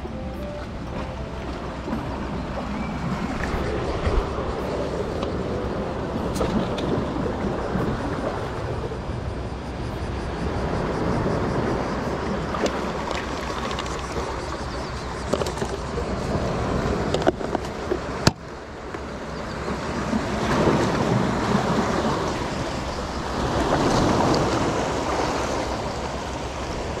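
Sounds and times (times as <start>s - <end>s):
waves washing onto shore: 0.0s - 27.0s
wind noise on microphone: 0.0s - 27.0s.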